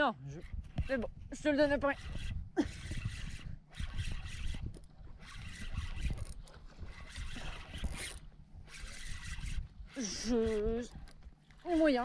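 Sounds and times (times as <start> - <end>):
fishing reel whirring: 0.4 - 12.0.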